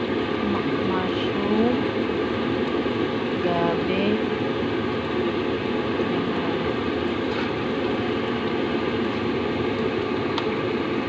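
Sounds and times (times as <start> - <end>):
broth simmering in a wok: 0.0 - 11.0.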